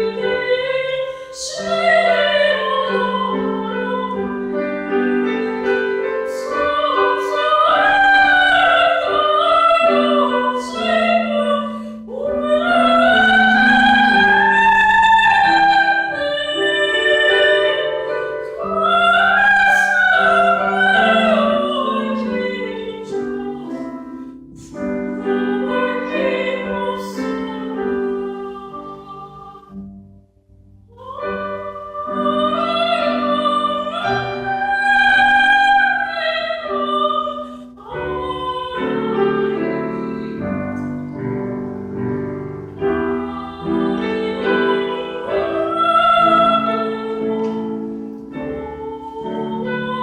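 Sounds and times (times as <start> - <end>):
soprano singing with vibrato: 0.0 - 29.8, 30.9 - 41.8, 42.6 - 50.0
piano accompaniment: 0.0 - 50.0.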